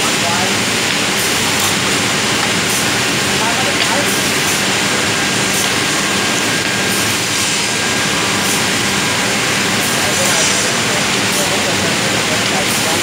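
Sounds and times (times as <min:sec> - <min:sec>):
wood drilling machine running: 0:00.0 - 0:13.0.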